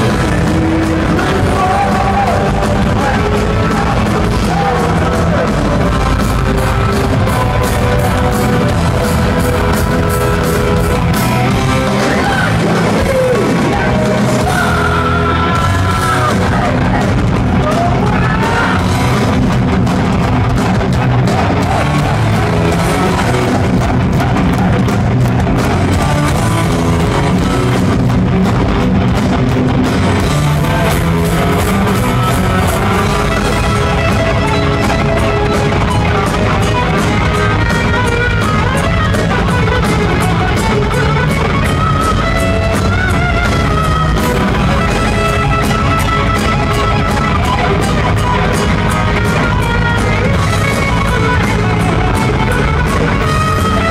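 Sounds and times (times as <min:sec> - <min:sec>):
driving drum kit: 0:00.0 - 0:53.9
electric guitars: 0:00.0 - 0:53.9.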